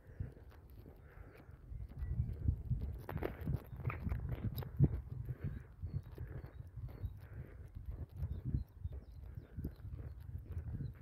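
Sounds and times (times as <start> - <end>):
footsteps on gravel path: 0.0 - 11.0
wind buffeting microphone: 0.0 - 11.0.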